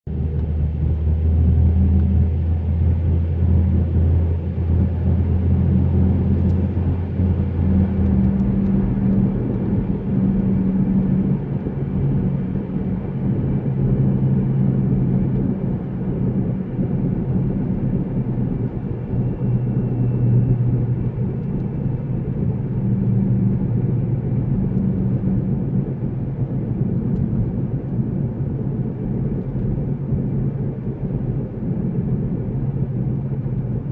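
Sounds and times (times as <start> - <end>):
car road and engine rumble: 0.1 - 33.9.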